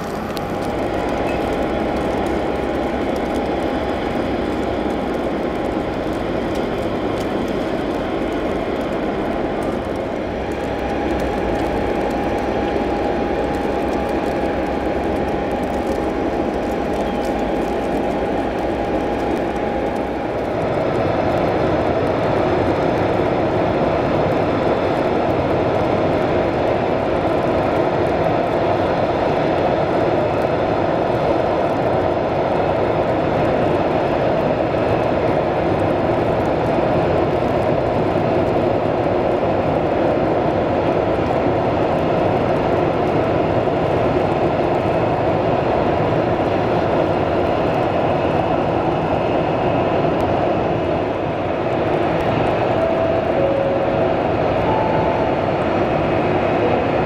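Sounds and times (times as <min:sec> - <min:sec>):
jet engines roaring: 0:00.0 - 0:41.2, 0:41.8 - 0:57.0.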